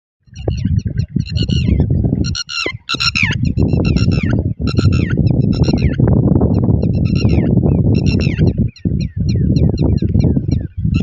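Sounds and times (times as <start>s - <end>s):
bird peeping calls: 0.3s - 11.0s.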